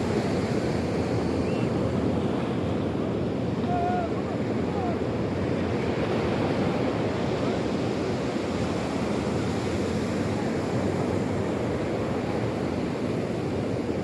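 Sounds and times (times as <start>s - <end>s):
sea waves washing on shore: 0.0s - 14.0s
wind: 0.0s - 14.0s.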